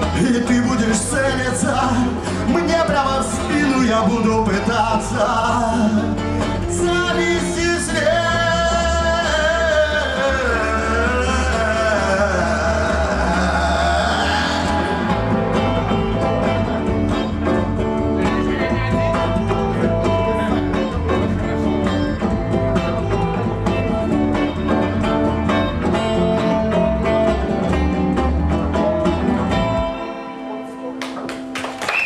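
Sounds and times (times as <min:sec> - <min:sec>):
acoustic guitar strumming: 0:00.0 - 0:31.5.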